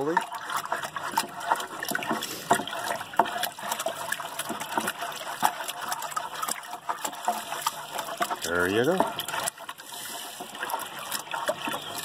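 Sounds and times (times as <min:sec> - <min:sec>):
tap water running into bucket: 0:00.0 - 0:12.0.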